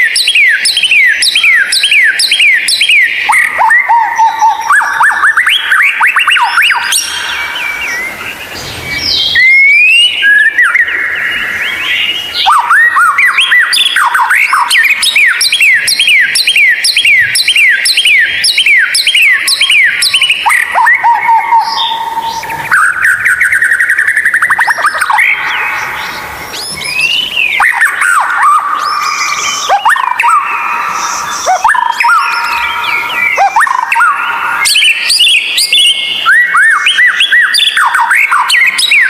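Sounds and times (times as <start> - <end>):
bird singing varied song: 0.0 - 39.0.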